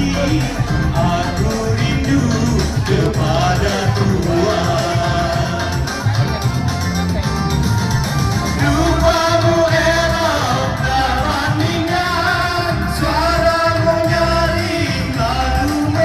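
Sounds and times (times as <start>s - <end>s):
band accompaniment: 0.0s - 16.0s.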